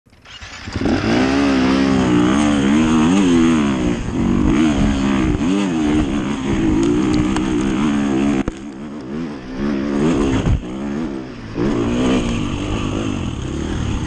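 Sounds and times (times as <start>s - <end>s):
dirt bike engine revving: 0.1s - 14.0s.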